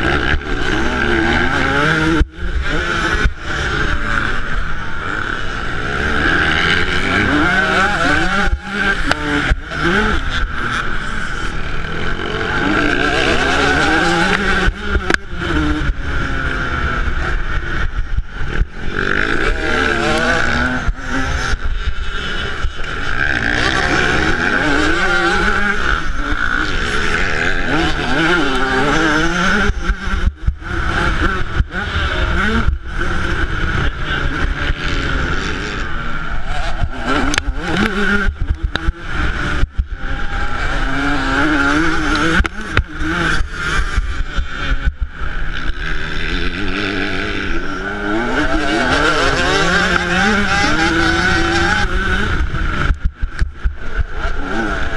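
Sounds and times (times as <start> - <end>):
two-stroke engine revving: 0.0 - 54.9.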